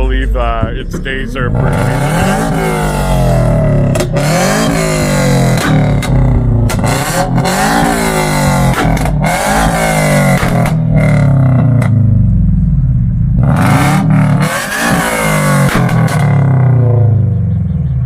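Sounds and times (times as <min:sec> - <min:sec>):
car engine revving: 0:00.0 - 0:18.0
exhaust cracks: 0:00.0 - 0:18.0.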